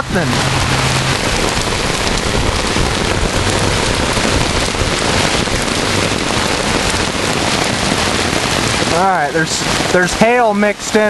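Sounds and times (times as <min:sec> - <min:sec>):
heavy rain and hail on pavement: 0:00.0 - 0:11.0
rain on umbrella: 0:00.0 - 0:11.0.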